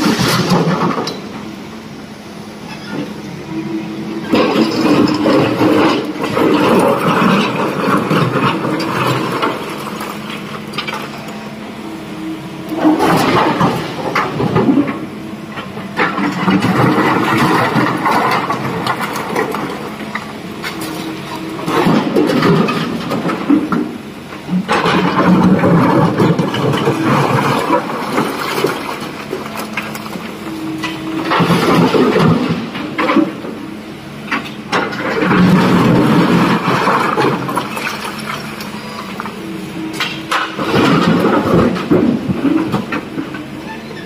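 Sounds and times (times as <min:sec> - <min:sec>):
excavator diesel engine under load: 0:00.0 - 0:44.0.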